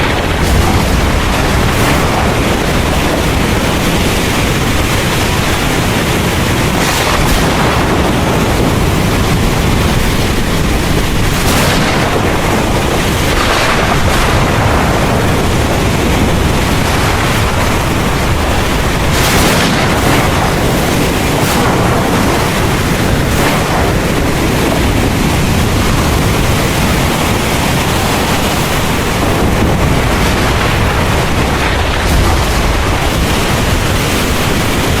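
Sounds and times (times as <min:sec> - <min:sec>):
heavy rain pouring: 0:00.0 - 0:35.0
low rumble of thunder: 0:00.0 - 0:35.0.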